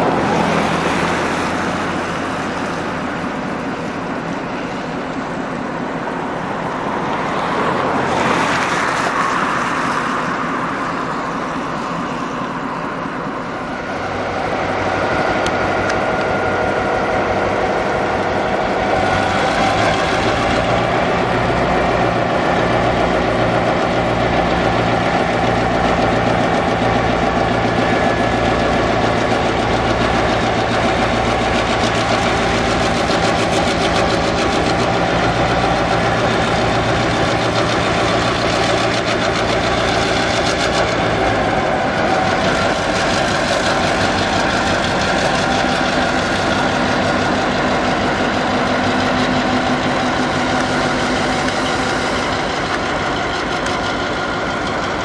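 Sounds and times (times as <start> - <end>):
locomotive diesel engine throbbing: 0.0 - 55.0.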